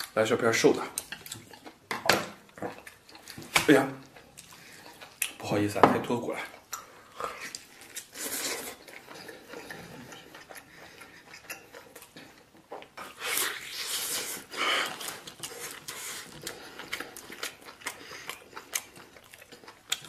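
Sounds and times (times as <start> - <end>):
close chewing and mouth noises: 0.0 - 20.0.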